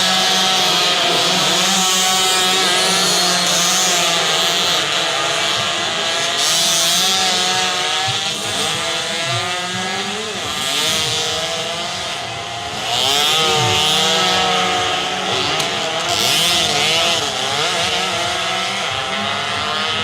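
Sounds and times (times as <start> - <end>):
racing motorcycle engines revving: 0.0 - 20.0.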